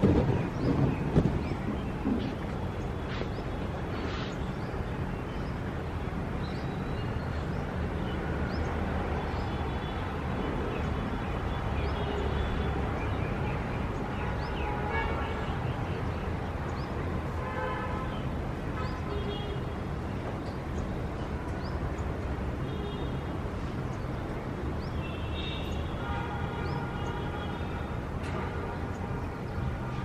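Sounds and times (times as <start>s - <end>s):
birds chirping: 0.0s - 28.0s
low traffic rumble: 0.0s - 30.0s.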